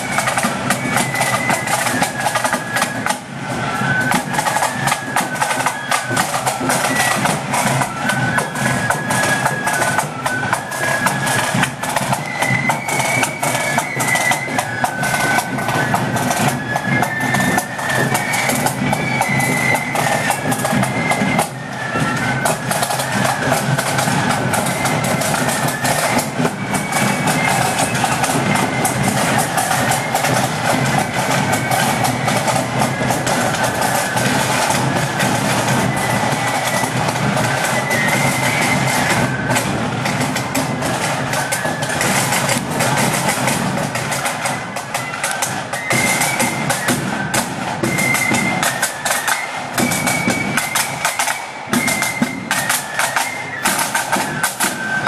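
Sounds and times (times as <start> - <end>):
flute melody: 0.0 - 55.0
rapid snare drumming: 0.0 - 55.0.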